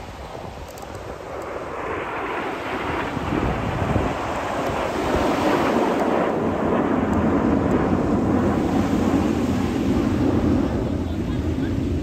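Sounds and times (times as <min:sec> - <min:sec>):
jets flying overhead: 0:00.0 - 0:12.0.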